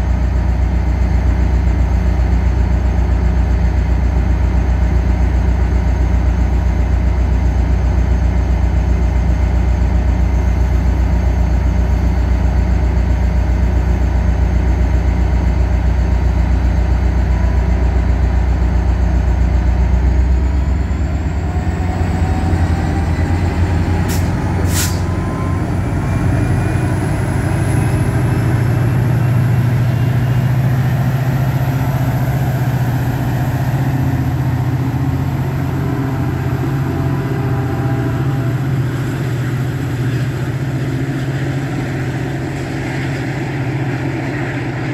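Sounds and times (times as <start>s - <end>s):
locomotive engine idling: 0.0s - 44.9s
rising whines of train pulling away: 0.0s - 44.9s.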